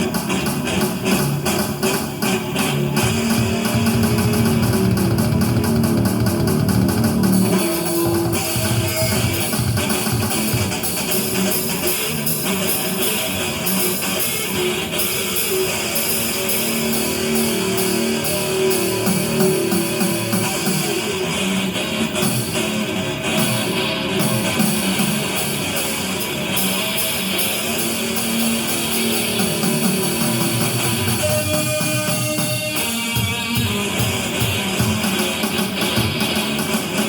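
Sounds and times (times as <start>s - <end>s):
guitar music: 0.0s - 37.0s.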